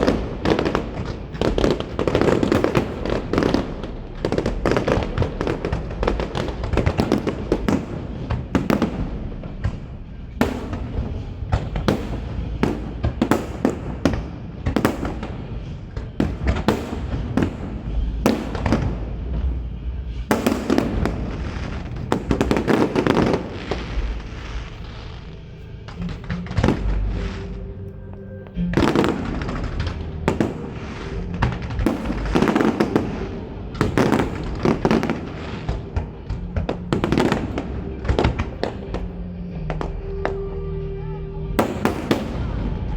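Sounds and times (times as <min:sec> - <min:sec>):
fireworks bursting bangs: 0:00.0 - 0:27.6, 0:28.4 - 0:40.4, 0:41.6 - 0:42.9
low rumble: 0:00.0 - 0:42.9.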